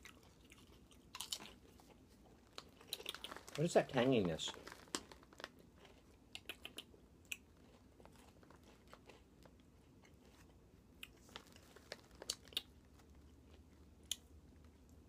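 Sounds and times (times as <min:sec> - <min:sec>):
potato chips being chewed: 0:00.0 - 0:15.0.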